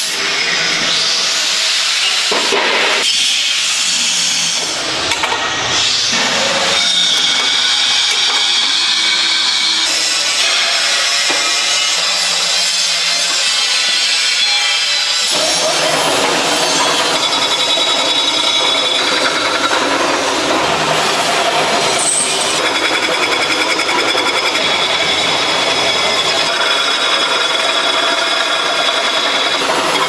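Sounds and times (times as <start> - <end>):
power tool grinding: 4.2 - 30.0.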